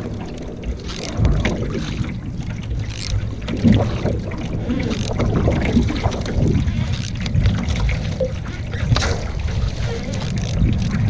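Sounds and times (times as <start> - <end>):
water lapping around canoe: 0.0 - 11.0
wind buffeting microphone: 0.0 - 11.0.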